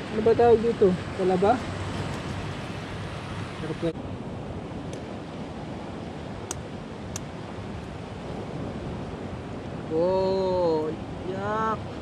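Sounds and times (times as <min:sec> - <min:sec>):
surf on rocky shore: 0:00.0 - 0:12.0
wind: 0:00.0 - 0:12.0.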